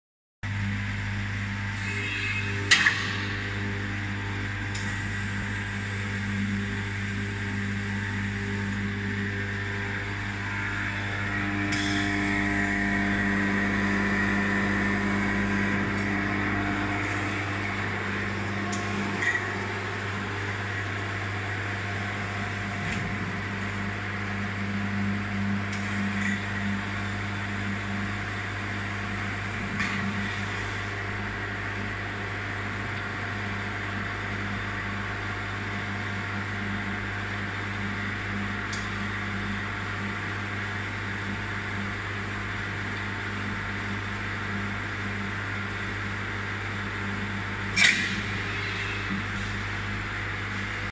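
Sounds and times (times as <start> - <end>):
washer motor hum with hiss: 1.6 - 50.9.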